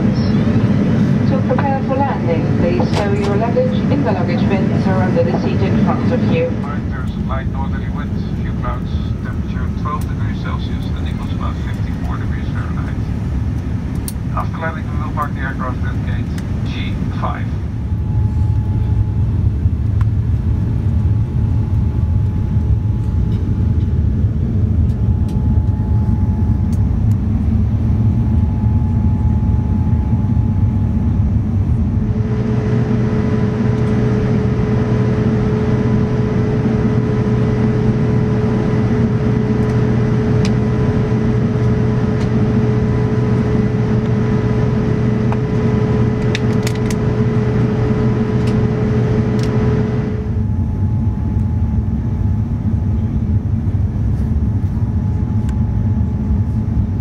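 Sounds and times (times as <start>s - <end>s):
aircraft cabin engine noise: 0.0s - 57.0s
steady hum: 0.0s - 57.0s.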